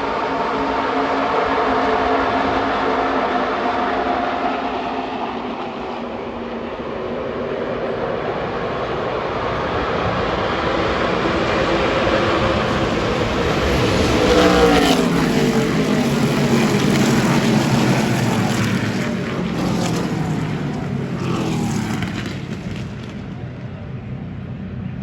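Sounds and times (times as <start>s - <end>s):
race truck engines passing: 2.1s - 24.4s.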